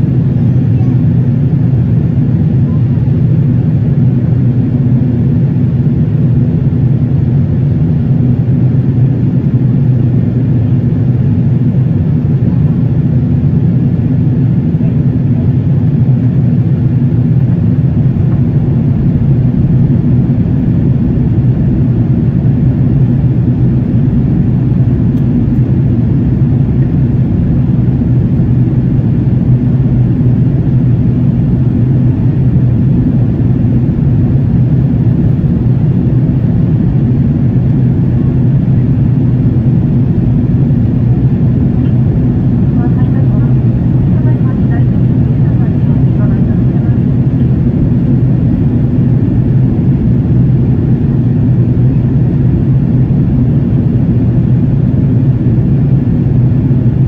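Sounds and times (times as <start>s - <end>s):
jet cabin engine drone: 0.0s - 57.0s.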